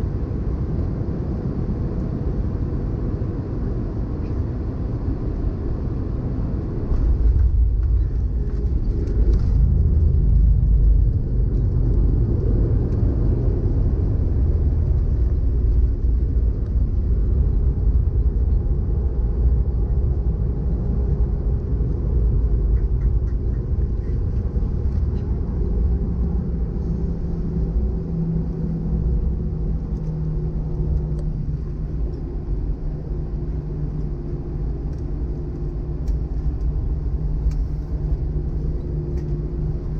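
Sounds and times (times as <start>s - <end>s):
airplane rumbling on runway: 0.0s - 39.9s
faint hum: 1.6s - 39.9s.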